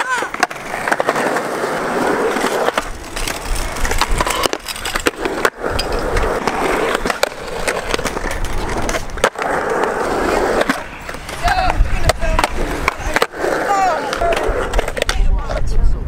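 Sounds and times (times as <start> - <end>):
skateboard clacks: 0.0 - 15.8
skateboard wheels rolling on concrete: 0.0 - 16.0.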